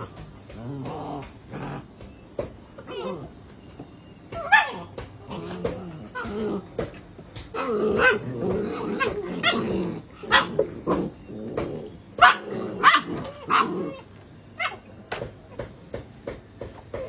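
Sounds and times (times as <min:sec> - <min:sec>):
puppies yelping: 0:00.0 - 0:15.7
puppies growling: 0:00.0 - 0:17.0.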